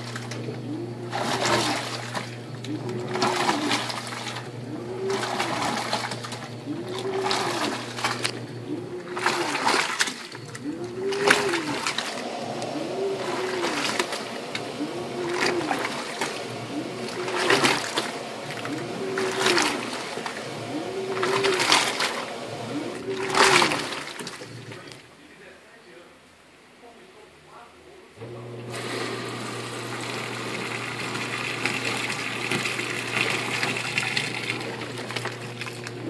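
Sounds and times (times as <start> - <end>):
washing machine motor whine: 0.0 - 25.1, 28.2 - 36.0
water splashing and sloshing: 0.0 - 25.1, 28.7 - 36.0.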